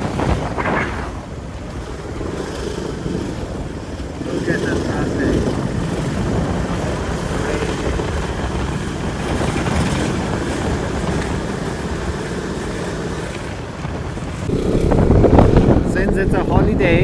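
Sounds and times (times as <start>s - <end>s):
motorcycle riding through traffic: 0.0s - 17.0s.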